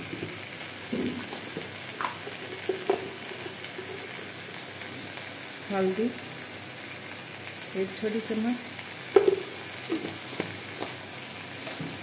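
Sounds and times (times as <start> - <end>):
masala sizzling in pan: 0.0 - 12.0.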